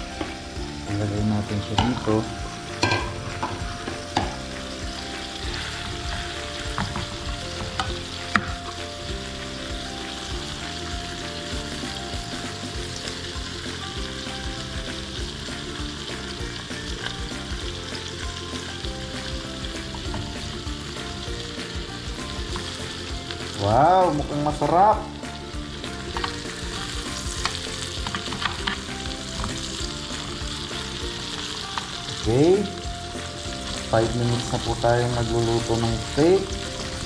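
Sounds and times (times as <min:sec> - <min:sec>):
food sizzling in a frying pan: 0:00.0 - 0:37.0
soft background music: 0:00.0 - 0:37.0.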